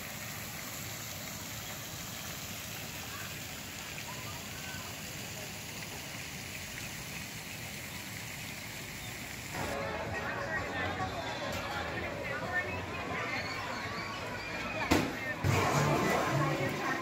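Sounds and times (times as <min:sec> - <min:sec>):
fountain splashing into pond: 0:00.0 - 0:09.9, 0:11.7 - 0:17.0.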